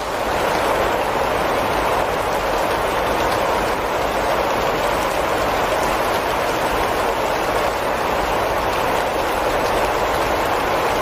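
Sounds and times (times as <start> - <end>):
heavy rain on foliage: 0.0 - 11.0.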